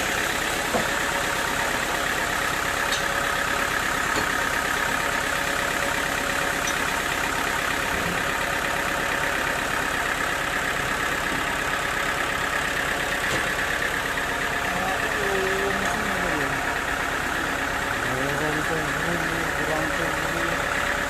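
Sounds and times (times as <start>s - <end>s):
sawmill machinery drone: 0.0s - 21.0s.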